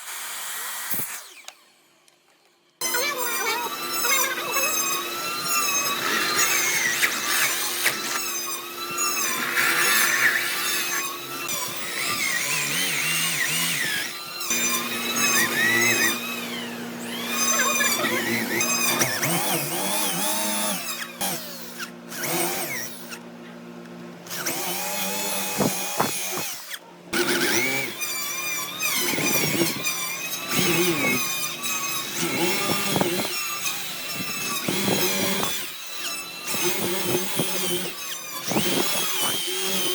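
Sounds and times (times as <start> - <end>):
power tool motor cutting wood: 0.0 - 1.8, 2.8 - 39.9.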